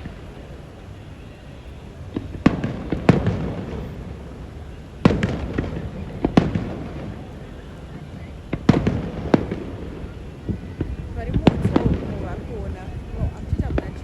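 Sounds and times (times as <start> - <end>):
fireworks bursting with bangs: 0.0 - 14.0.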